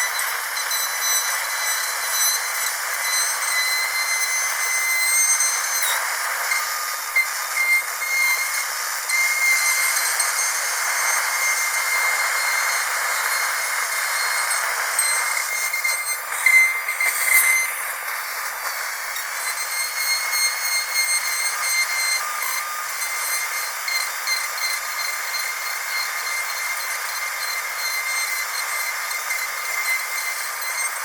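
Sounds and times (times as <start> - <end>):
dental drill whine: 0.0 - 31.0.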